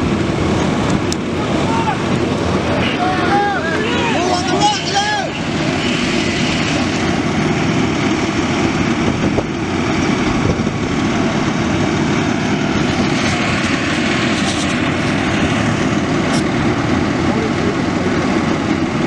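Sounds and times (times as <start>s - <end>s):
loud engine drone: 0.0s - 19.0s.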